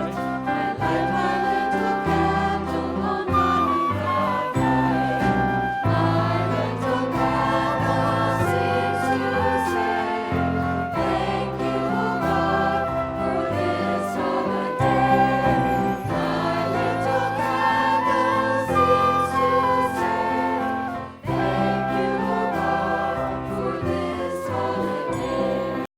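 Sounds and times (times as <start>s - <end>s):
choir singing: 0.0s - 25.9s
instrumental accompaniment: 0.0s - 25.9s.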